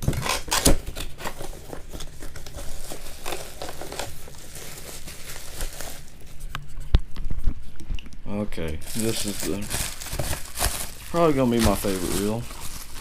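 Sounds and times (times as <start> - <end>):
packaging crinkling and rustling: 0.0 - 6.5, 8.8 - 13.0.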